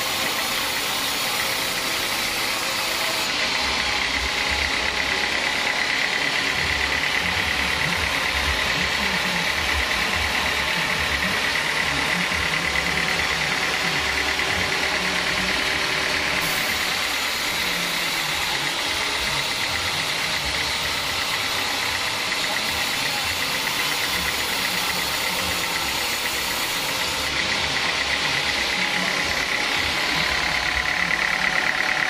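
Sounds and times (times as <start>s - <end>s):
band saw cutting wood: 0.0s - 32.0s
drive engine drone: 0.0s - 32.0s.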